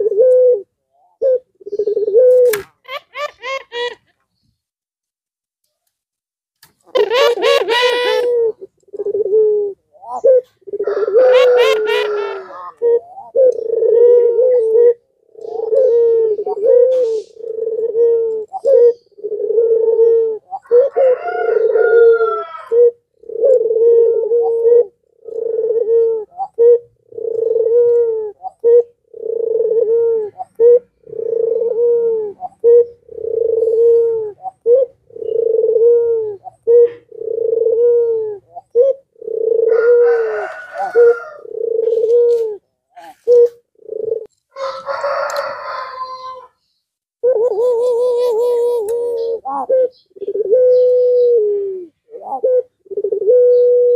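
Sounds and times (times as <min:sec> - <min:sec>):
dove cooing: 0:00.0 - 0:04.1, 0:06.8 - 0:46.6, 0:47.2 - 0:53.9.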